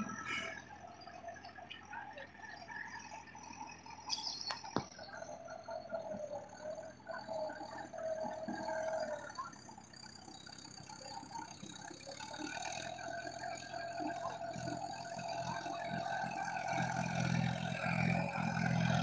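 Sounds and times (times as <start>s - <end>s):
tractor engine throbbing: 0.0s - 19.0s.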